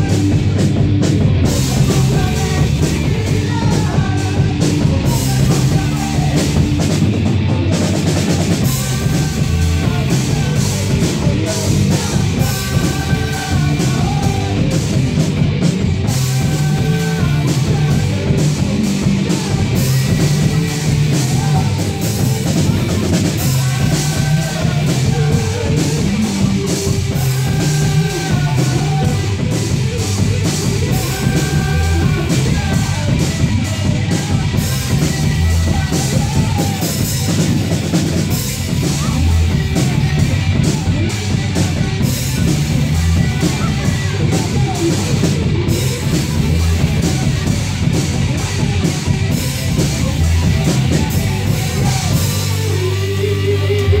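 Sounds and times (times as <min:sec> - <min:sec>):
drum kit: 0:00.0 - 0:54.0
electric guitars: 0:00.0 - 0:54.0
person singing into a microphone: 0:01.4 - 0:07.0, 0:07.6 - 0:15.3, 0:16.0 - 0:37.8, 0:38.7 - 0:54.0.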